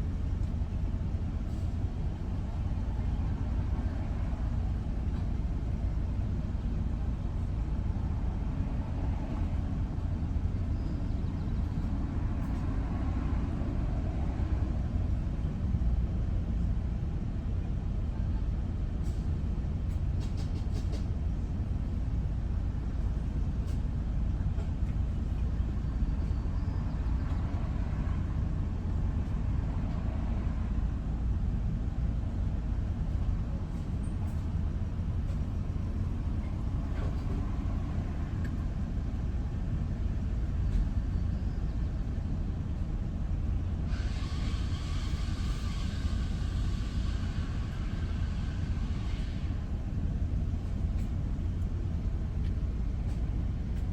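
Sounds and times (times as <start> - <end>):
vehicle road and engine rumble: 0.0 - 53.9.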